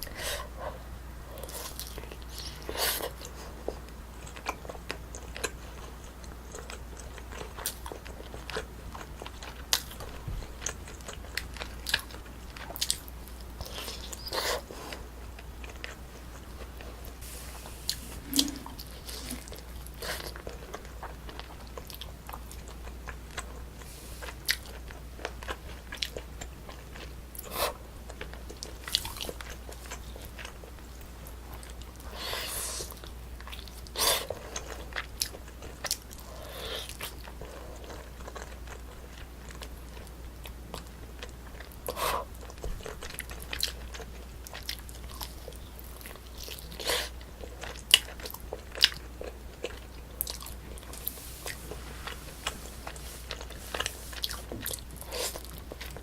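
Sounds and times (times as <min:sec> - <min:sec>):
steady low hum: 0:00.0 - 0:56.0
chewing and biting food: 0:01.4 - 0:17.2, 0:17.9 - 0:56.0.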